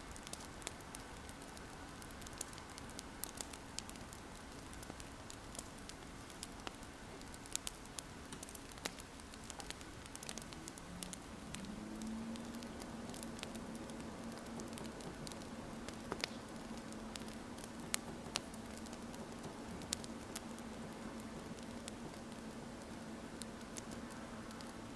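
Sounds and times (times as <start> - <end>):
low steady hum: 0.0 - 24.9
wood fire crackling and popping: 0.0 - 24.9.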